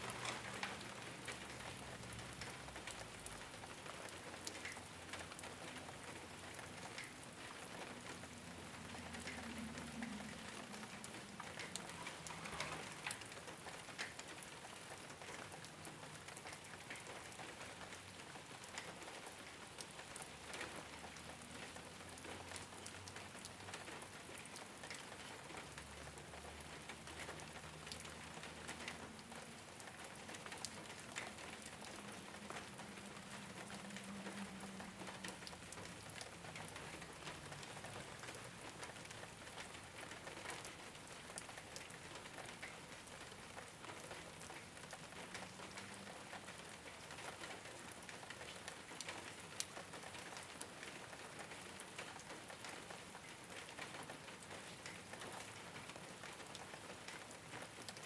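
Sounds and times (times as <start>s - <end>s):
rain on a rooftop: 0.0s - 58.0s.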